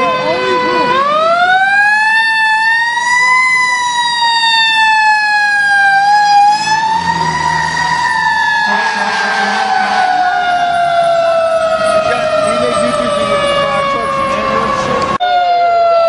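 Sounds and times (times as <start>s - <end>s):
fire truck siren wailing: 0.0s - 16.0s.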